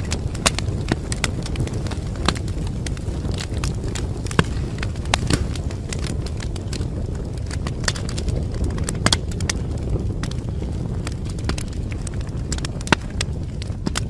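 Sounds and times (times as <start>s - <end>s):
burning logs snapping: 0.0s - 14.0s
wood fire crackling: 0.0s - 14.0s.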